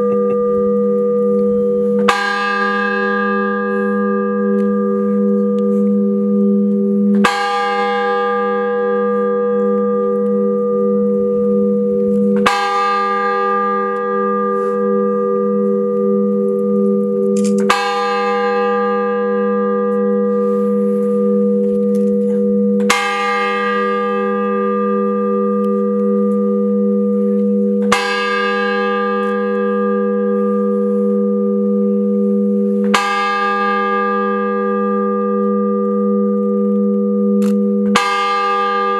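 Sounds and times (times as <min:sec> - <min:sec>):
large bell tolling: 0:00.0 - 0:38.9.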